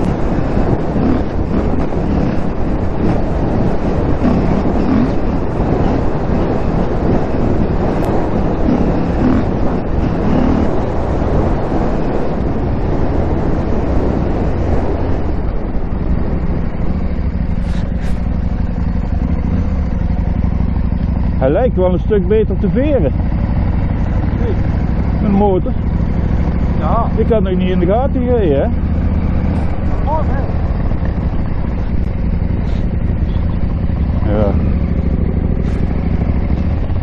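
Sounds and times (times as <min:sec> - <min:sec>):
motorcycle engine running: 0:00.0 - 0:37.0
road and wind noise: 0:00.0 - 0:37.0.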